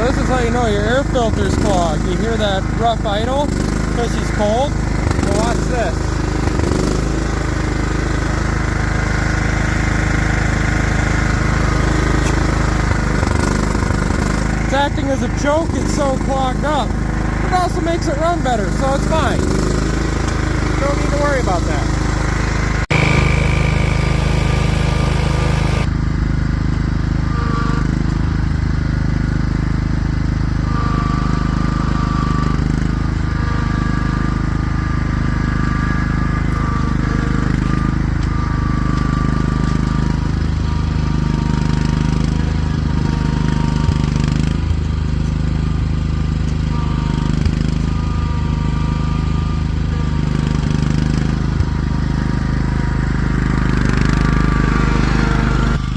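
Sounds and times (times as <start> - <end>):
lawnmower engine idling: 0.0 - 55.9.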